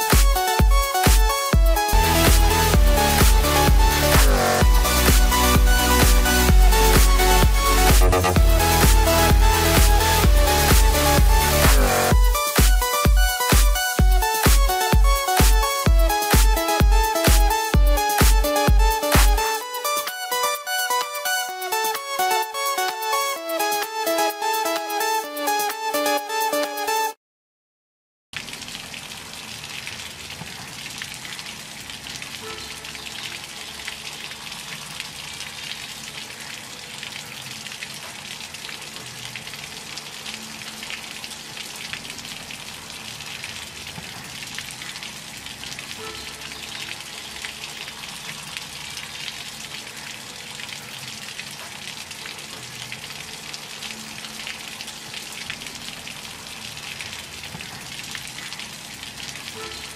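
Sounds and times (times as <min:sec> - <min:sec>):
water gushing and splashing: 0:00.0 - 0:19.7, 0:28.4 - 0:59.9.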